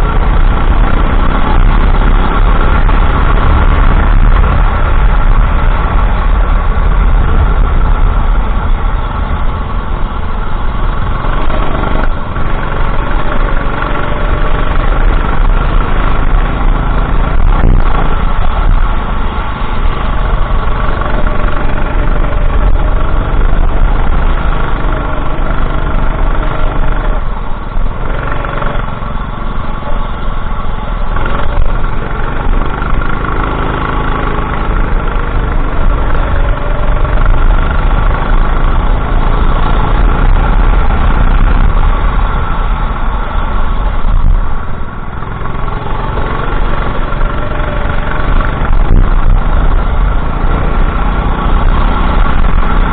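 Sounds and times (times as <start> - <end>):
go-kart engine racing: 0.0 - 52.9.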